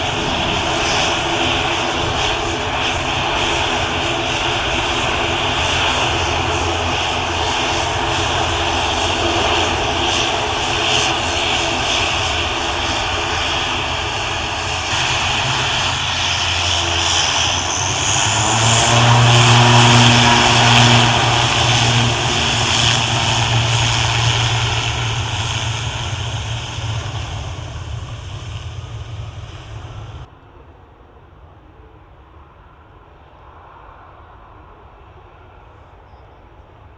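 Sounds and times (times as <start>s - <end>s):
hissing engine whine: 0.0s - 30.3s
turboprop airliner drone: 0.0s - 36.9s.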